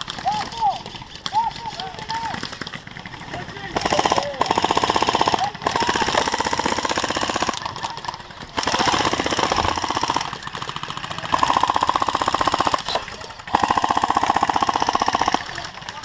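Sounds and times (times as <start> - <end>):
airsoft guns firing full auto: 0.0 - 16.0.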